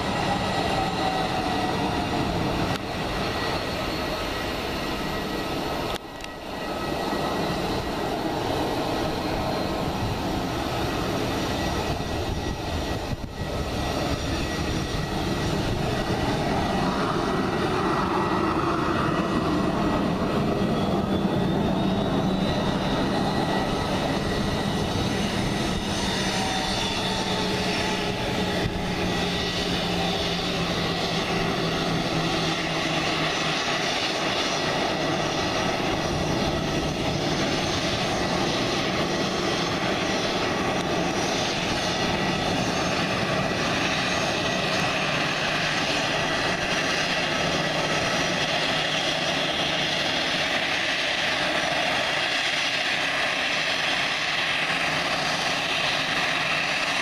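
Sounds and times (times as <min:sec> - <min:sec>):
jet engines rumble and whine: 0:00.0 - 0:57.0.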